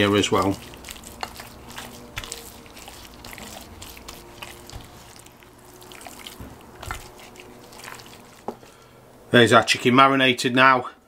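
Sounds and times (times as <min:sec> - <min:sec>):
wet squelches of hand rubbing chicken: 0:00.0 - 0:08.9.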